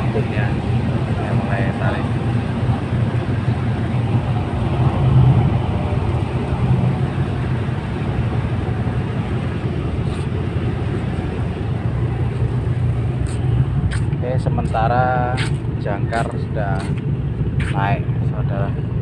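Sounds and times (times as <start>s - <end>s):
tugboat engine droning: 0.0s - 19.0s.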